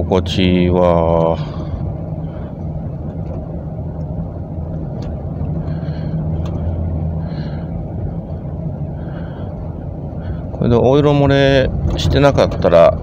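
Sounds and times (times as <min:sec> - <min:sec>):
van engine and road noise drone: 0:00.0 - 0:13.0.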